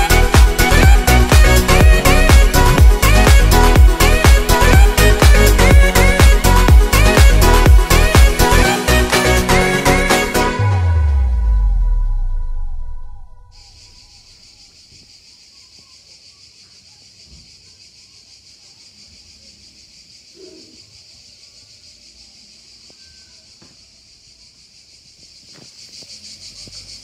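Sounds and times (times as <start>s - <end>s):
pulsing insect chorus: 0.0s - 10.2s, 13.5s - 27.0s.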